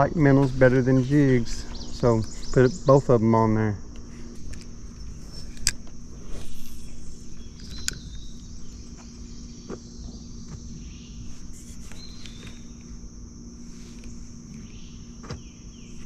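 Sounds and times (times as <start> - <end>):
insects chirping: 0.0 - 16.0
low hum: 0.0 - 16.0.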